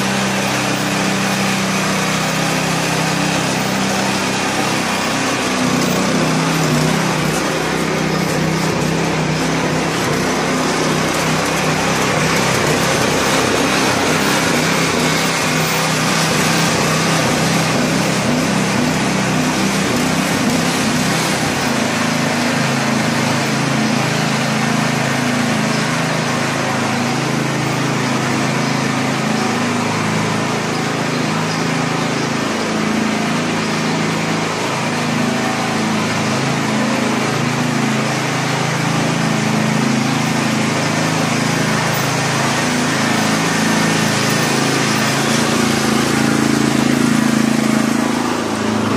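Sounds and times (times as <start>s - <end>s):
harvesting machine engine running: 0.0s - 48.9s.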